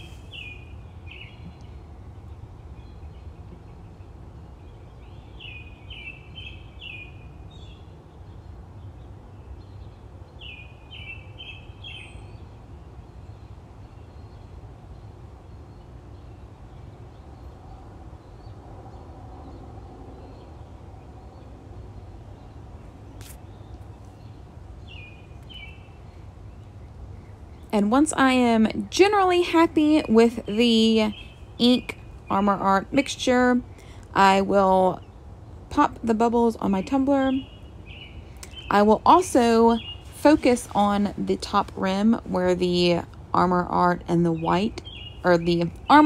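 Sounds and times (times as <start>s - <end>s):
bird chirping: 0.0s - 12.6s, 13.2s - 41.9s, 42.5s - 46.0s
steady low hum: 0.0s - 46.0s.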